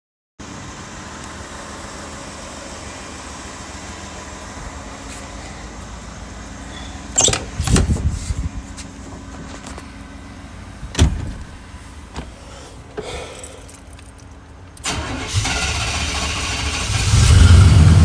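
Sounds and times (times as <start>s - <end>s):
truck engine idling: 0.4s - 18.0s.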